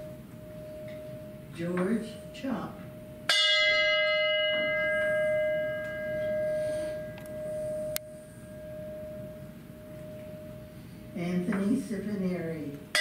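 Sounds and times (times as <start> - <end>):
bell ringing: 0.0 - 11.5.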